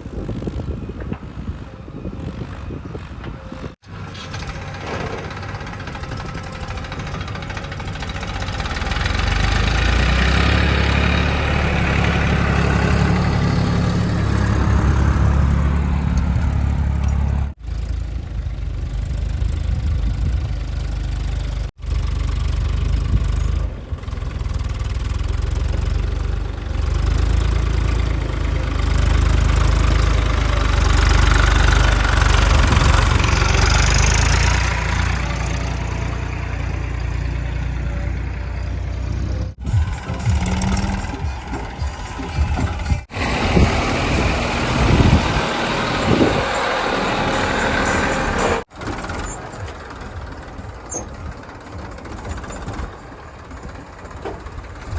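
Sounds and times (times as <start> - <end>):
diesel engine running under load: 0.0 - 54.9.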